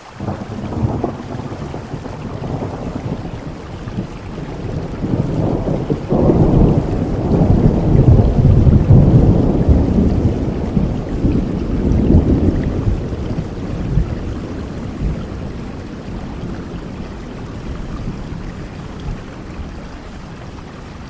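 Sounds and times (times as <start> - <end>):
steady rain: 0.0 - 21.0
rolling thunder: 0.2 - 21.0.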